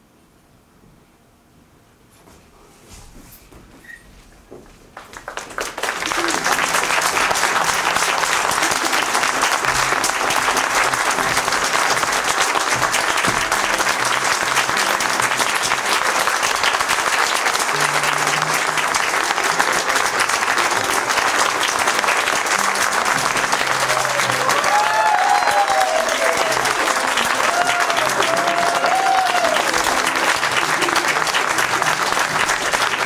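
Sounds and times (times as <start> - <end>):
audience applauding: 4.9 - 33.0
music playing: 6.0 - 33.0.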